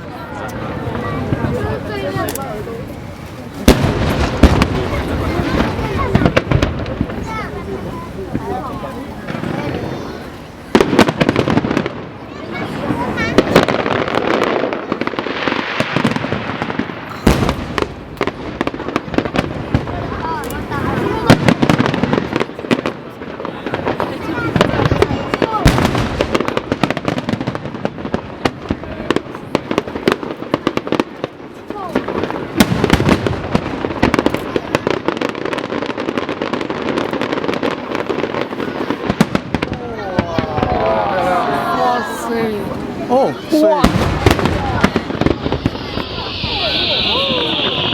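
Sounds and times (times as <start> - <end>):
fireworks bangs and crackling: 0.0 - 47.9
deep firework boom: 3.6 - 10.0, 10.7 - 12.2, 12.8 - 31.1, 31.9 - 35.7, 36.3 - 41.0, 43.8 - 47.9.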